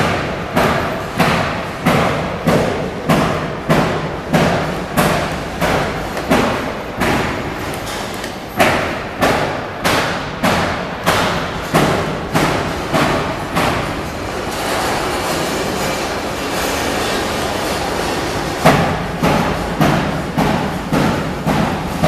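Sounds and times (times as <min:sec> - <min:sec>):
belt conveyor running: 0:00.0 - 0:22.0.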